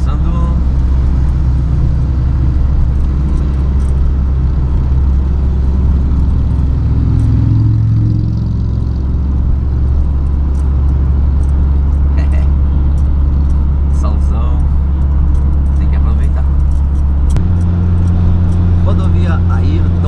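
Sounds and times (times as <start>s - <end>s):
engine and road noise drone: 0.0s - 20.0s
pitched hum: 0.0s - 20.0s.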